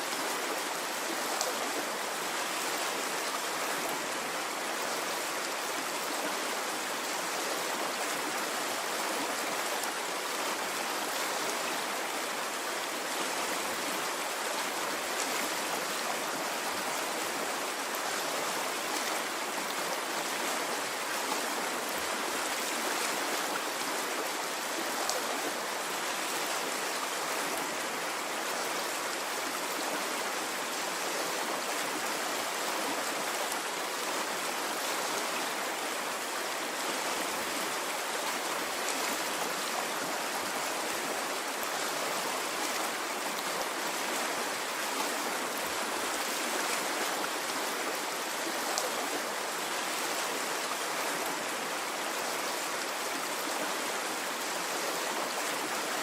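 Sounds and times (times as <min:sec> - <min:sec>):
stream of water rushing: 0:00.0 - 0:56.0.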